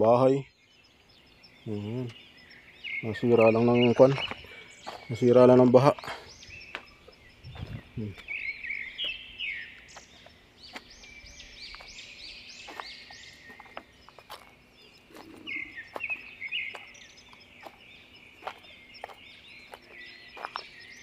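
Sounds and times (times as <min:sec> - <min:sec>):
bird singing: 0:00.0 - 0:21.0
footsteps on loose stones: 0:03.2 - 0:21.0.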